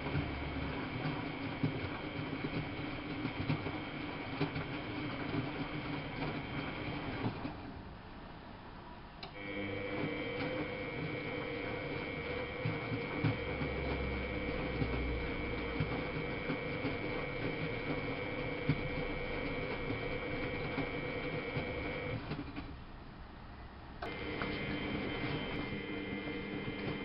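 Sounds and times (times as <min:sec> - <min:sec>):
washing machine rattling: 0:00.0 - 0:07.8, 0:09.5 - 0:22.7, 0:24.0 - 0:27.0
washing machine whining: 0:00.0 - 0:23.2, 0:23.9 - 0:27.0.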